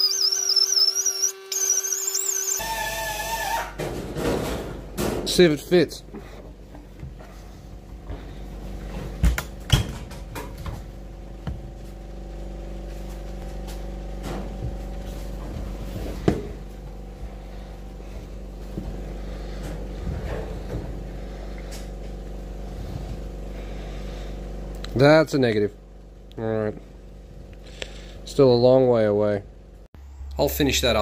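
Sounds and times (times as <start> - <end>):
steady machine hum: 4.0 - 31.0.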